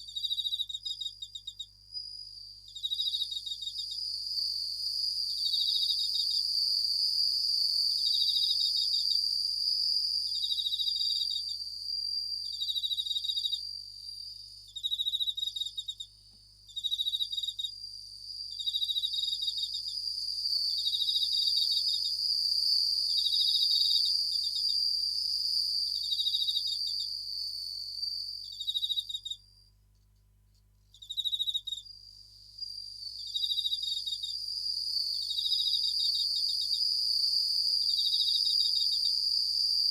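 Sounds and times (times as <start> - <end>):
crickets trilling: 0.0 - 29.7, 30.9 - 39.9
high ringing insect chorus: 0.0 - 29.7, 30.9 - 39.9.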